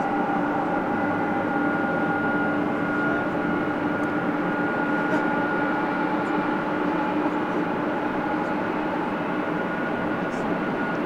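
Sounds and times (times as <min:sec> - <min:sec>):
jet aircraft engines running: 0:00.0 - 0:11.0.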